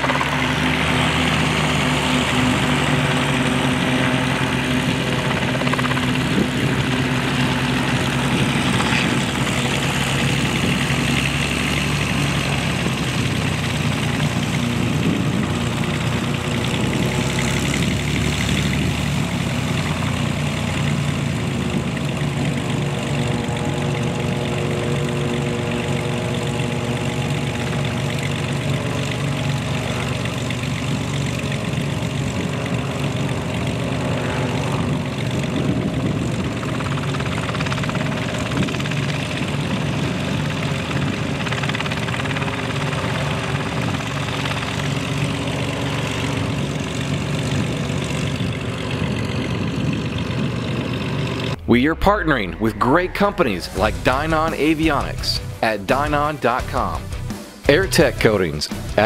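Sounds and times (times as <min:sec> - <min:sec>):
model helicopter engines and rotors: 0:00.0 - 0:59.0.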